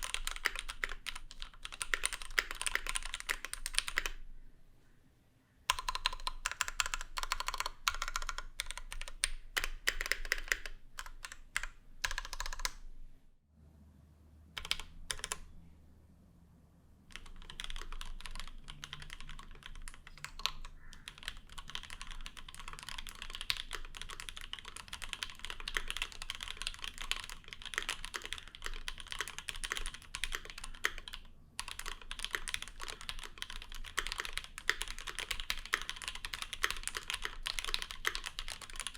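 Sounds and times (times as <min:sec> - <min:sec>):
typing on mechanical keyboard: 0:00.0 - 0:04.2, 0:05.7 - 0:12.8, 0:14.6 - 0:15.5, 0:17.1 - 0:38.9.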